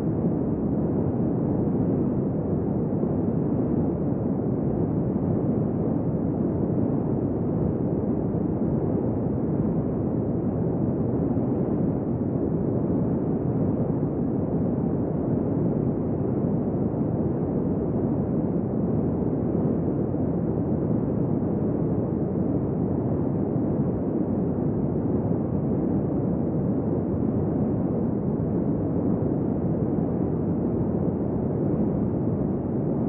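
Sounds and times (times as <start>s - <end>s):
wind blowing steadily: 0.0s - 33.0s.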